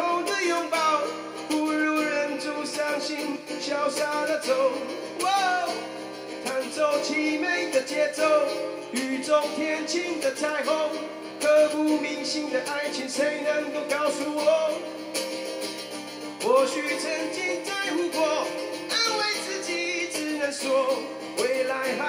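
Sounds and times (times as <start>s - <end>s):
man singing into a microphone: 0.0s - 14.9s, 16.4s - 22.0s
strummed acoustic guitar: 0.0s - 22.0s.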